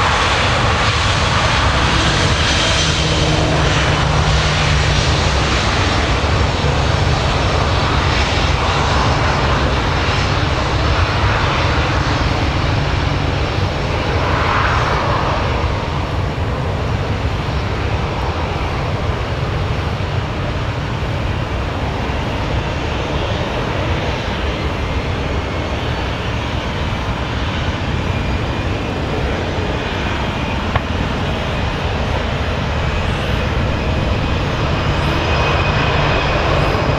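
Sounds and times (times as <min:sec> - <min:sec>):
jet engines rumbling with whine: 0:00.0 - 0:36.9.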